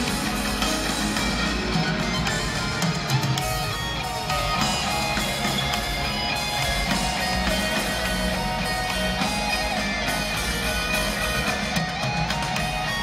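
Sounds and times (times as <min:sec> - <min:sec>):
heavy metal band playing live: 0:00.0 - 0:13.0.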